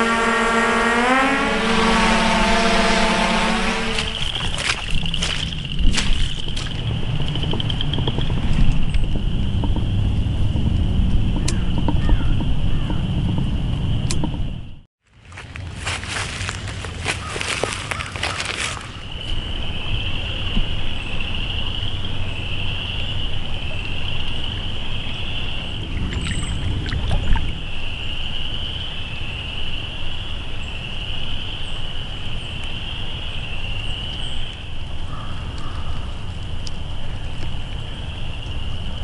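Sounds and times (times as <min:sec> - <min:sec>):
chorus of frogs: 0:01.8 - 0:09.9, 0:15.8 - 0:39.0.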